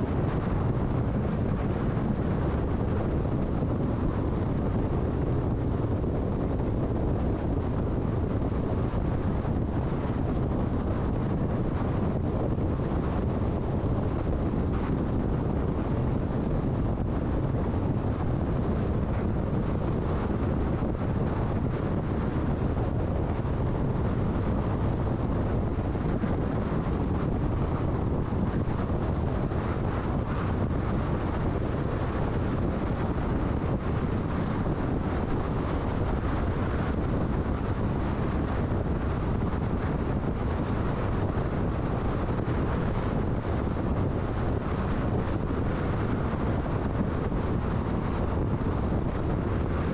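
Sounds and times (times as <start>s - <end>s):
car road and wind noise: 0.0s - 49.9s.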